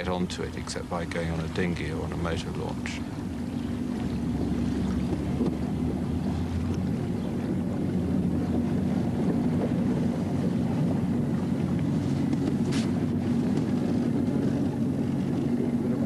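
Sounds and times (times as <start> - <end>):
motor boat engine droning: 0.0 - 16.0.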